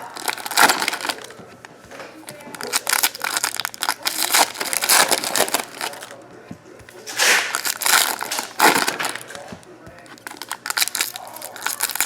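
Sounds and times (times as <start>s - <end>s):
wrappers tearing and crumpling: 0.0s - 1.4s, 2.3s - 6.2s, 6.9s - 12.0s.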